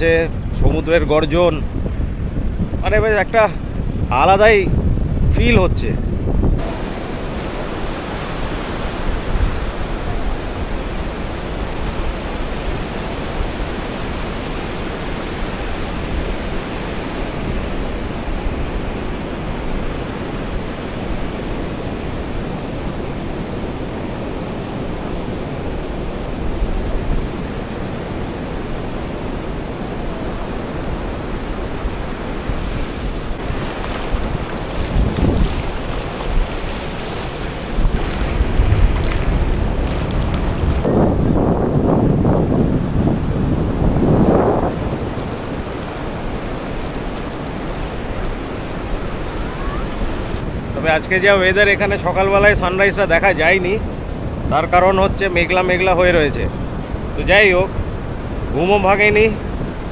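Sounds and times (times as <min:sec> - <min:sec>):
wind on microphone: 0:00.0 - 0:59.9
surf breaking on beach: 0:06.5 - 0:59.9.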